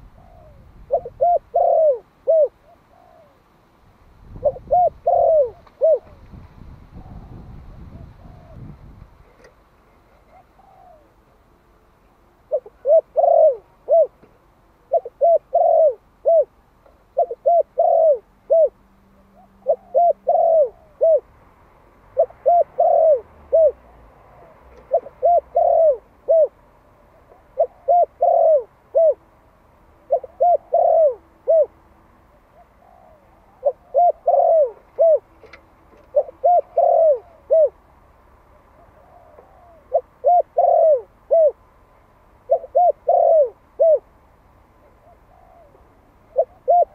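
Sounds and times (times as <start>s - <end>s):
dove cooing: 0.0s - 3.5s, 4.3s - 6.3s, 6.9s - 11.3s, 12.4s - 21.3s, 22.1s - 29.4s, 30.0s - 37.9s, 38.5s - 41.7s, 42.4s - 44.2s, 44.8s - 46.9s.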